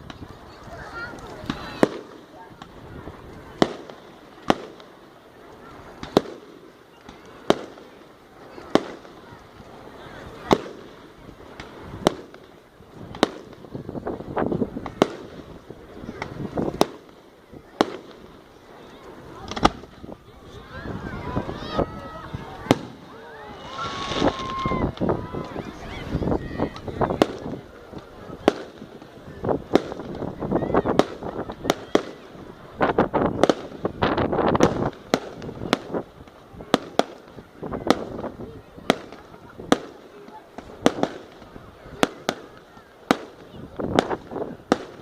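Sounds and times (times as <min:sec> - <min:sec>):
fireworks bangs: 0:00.0 - 0:45.0
fireworks crackling: 0:00.0 - 0:45.0.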